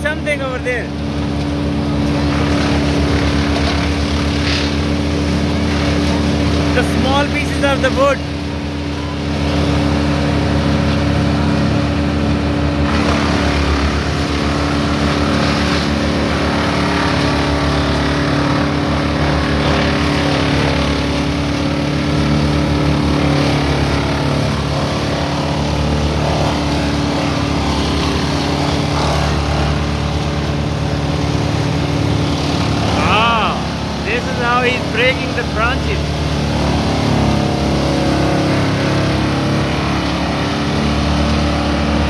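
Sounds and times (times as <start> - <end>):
wood chipper engine drone: 0.0 - 42.0
branches grinding in chipper: 0.3 - 42.0.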